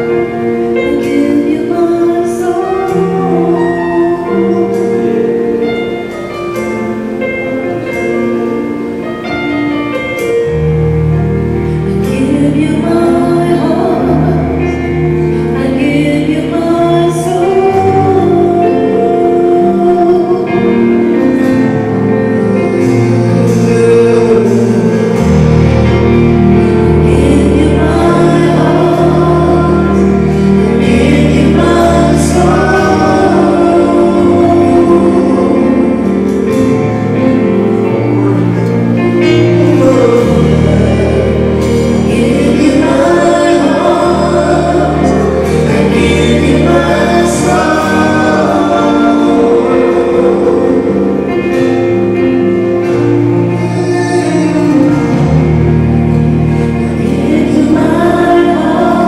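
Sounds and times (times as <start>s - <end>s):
gospel worship music: 0.0s - 59.0s.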